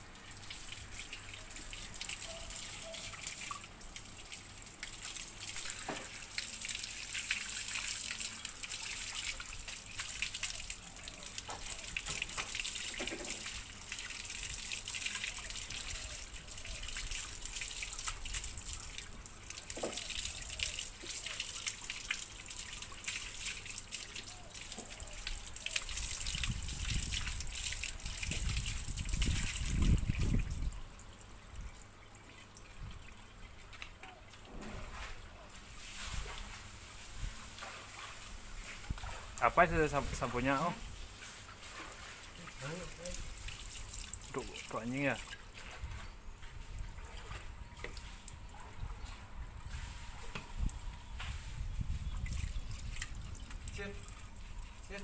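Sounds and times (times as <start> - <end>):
hose water spraying and splashing: 0.0 - 30.8, 33.6 - 48.5, 49.1 - 55.0.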